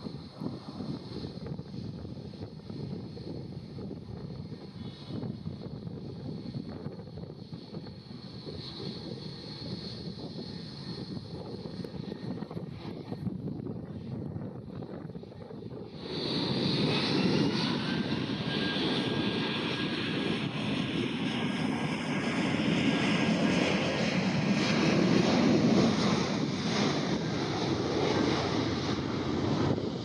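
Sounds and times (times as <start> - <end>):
jet engines taxiing: 0.0 - 30.0.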